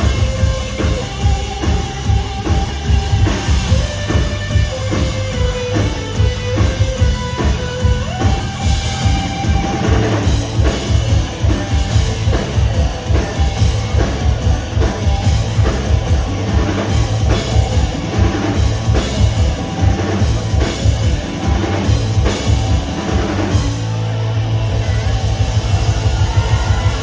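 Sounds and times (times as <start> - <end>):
driving drum beat: 0.0 - 27.0
heavy bass: 0.0 - 27.0
rock band playing: 0.0 - 27.0.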